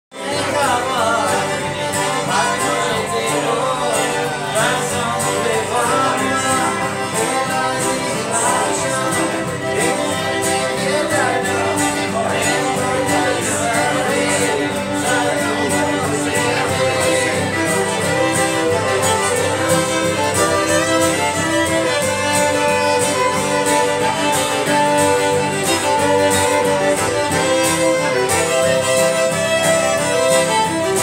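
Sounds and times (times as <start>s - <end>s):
fiddles playing lively tune: 0.1s - 31.0s
guitar accompaniment: 0.1s - 31.0s.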